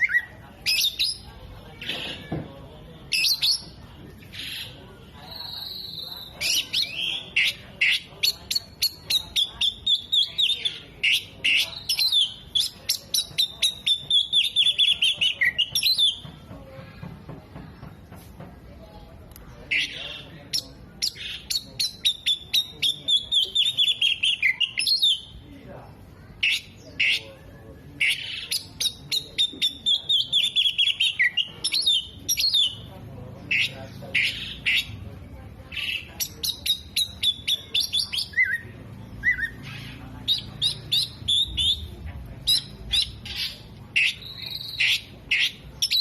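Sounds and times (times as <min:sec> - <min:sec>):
bird singing chirps and trills: 0:00.0 - 0:02.5, 0:03.1 - 0:16.5, 0:19.6 - 0:25.4, 0:26.0 - 0:46.0.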